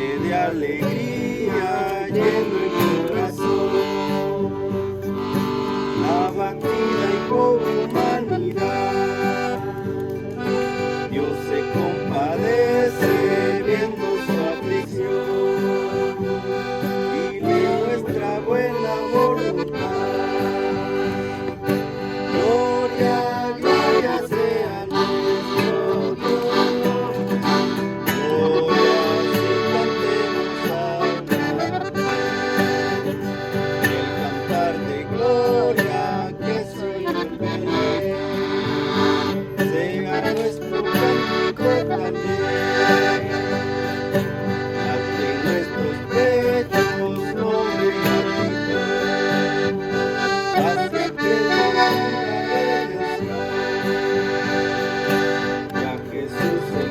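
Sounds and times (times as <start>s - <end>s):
accordion melody: 0.0s - 56.9s
guitar accompaniment: 0.0s - 56.9s.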